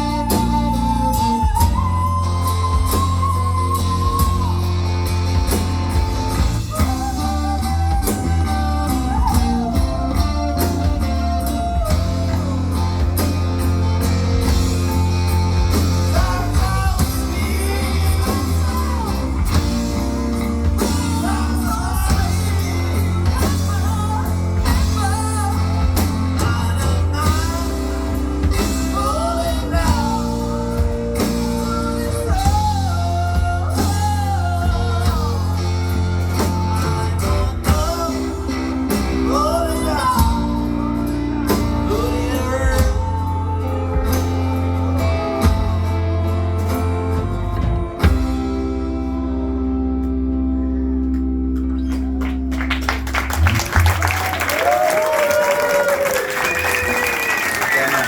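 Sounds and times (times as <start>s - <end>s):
live band music: 0.0s - 58.0s.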